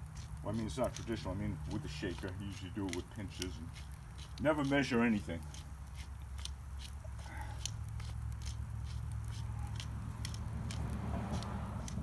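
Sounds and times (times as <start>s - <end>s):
low steady rumble: 0.0s - 12.0s
sharp fire pops: 0.0s - 12.0s
wood fire crackling: 0.0s - 12.0s.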